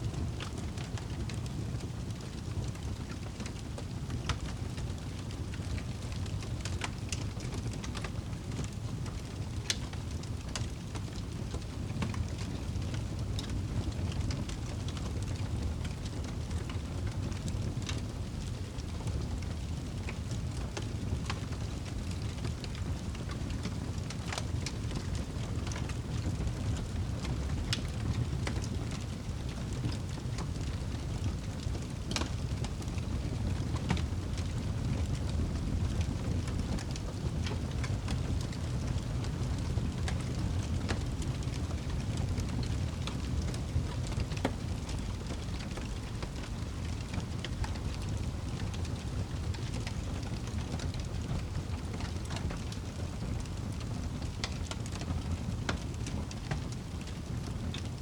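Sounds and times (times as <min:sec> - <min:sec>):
fire crackling and popping: 0:00.1 - 0:58.0
fire rumbling: 0:00.1 - 0:58.0.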